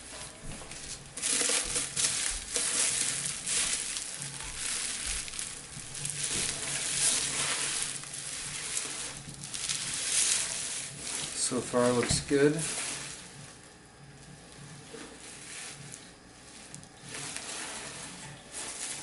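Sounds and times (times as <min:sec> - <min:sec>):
packing material crinkling: 0:00.0 - 0:19.0.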